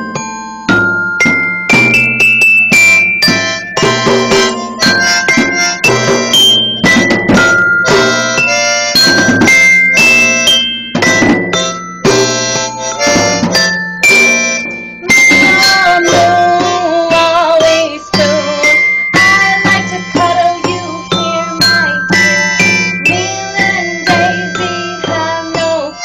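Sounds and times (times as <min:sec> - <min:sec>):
plucked chords: 0:00.0 - 0:26.0
wavering held melody: 0:00.0 - 0:26.0.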